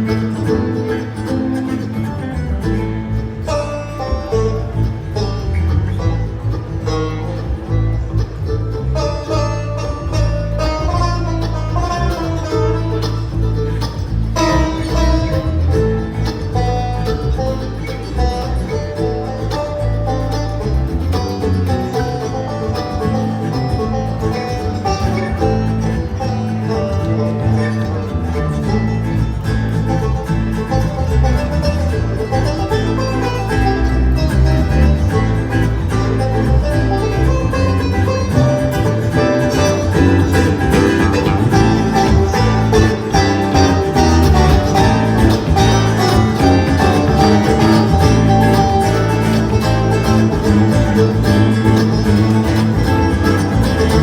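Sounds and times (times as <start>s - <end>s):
banjo picking: 0.0s - 54.0s
bass rhythm: 0.0s - 54.0s
bluegrass band playing: 0.0s - 54.0s.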